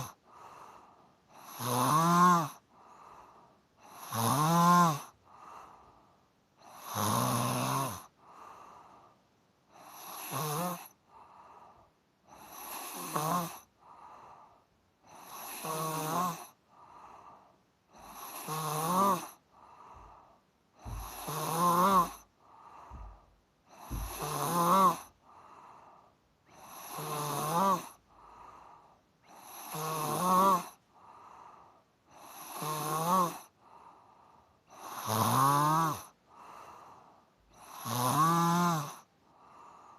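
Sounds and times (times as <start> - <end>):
person snoring: 0.0 - 5.8, 6.6 - 8.9, 9.7 - 14.5, 15.1 - 20.2, 20.8 - 25.9, 26.5 - 39.9.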